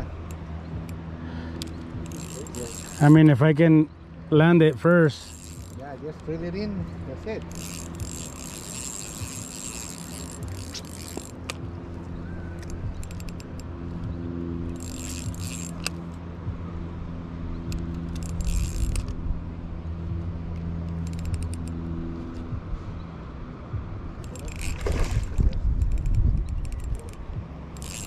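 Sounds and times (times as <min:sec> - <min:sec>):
fishing reel whirring: 0:00.0 - 0:03.7, 0:04.4 - 0:16.2, 0:17.3 - 0:19.3, 0:20.6 - 0:22.5, 0:24.2 - 0:28.0
steady low hum: 0:00.0 - 0:28.0.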